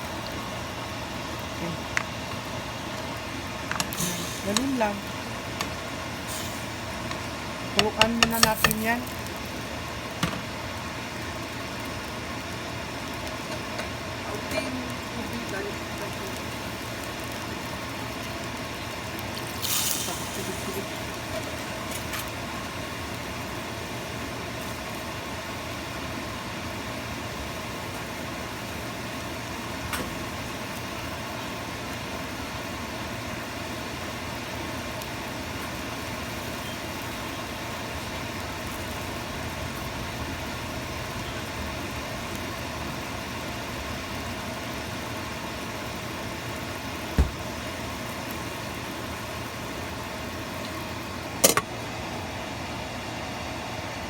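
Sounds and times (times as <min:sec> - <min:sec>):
covered pot simmering: 0:00.0 - 0:54.0.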